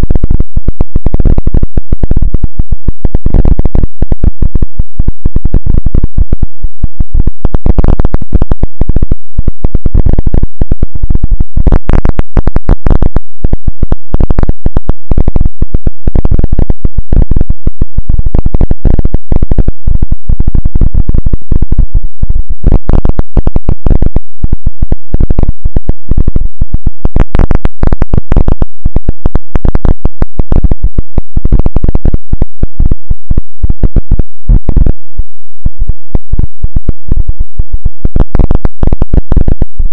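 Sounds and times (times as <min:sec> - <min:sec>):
distorted electronic crackling noise: 0:00.0 - 0:39.9.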